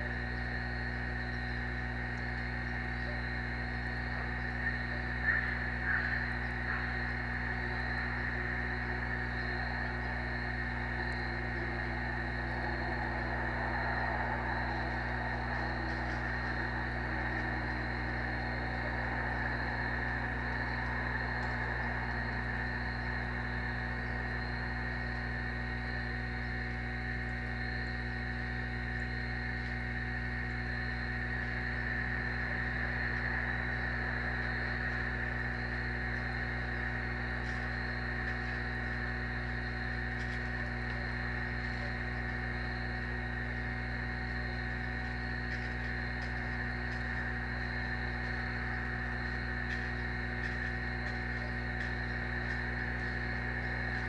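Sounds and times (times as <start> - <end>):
constant low hum: 0.0 - 54.0
insects trilling: 0.0 - 54.0.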